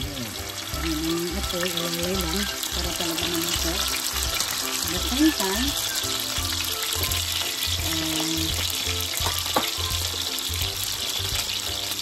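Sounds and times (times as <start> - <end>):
background music with low pulse: 0.0 - 12.0
steak sizzling in a pan: 0.0 - 12.0.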